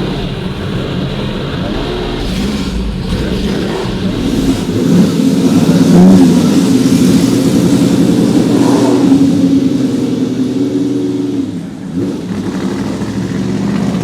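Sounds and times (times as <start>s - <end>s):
car engine under throttle: 0.0s - 14.0s.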